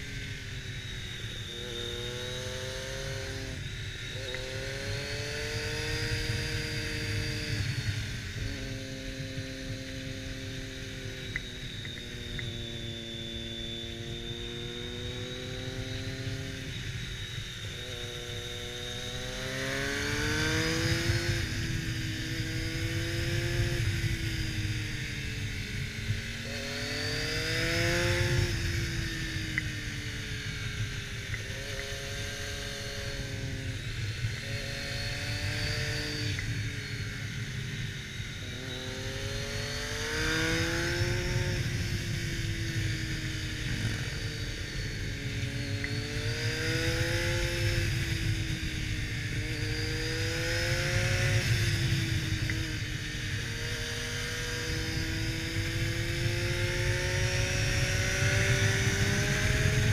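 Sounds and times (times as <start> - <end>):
low wind rush: 0.0 - 59.9
motorcycle engine revving: 0.0 - 59.9.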